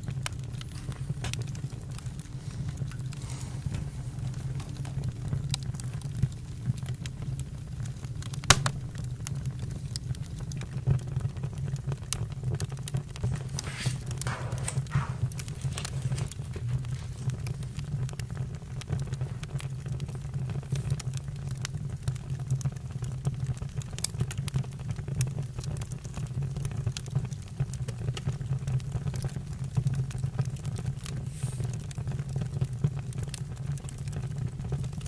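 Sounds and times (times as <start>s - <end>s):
campfire crackling and popping: 0.0s - 35.0s
low fire rumble: 0.0s - 35.0s.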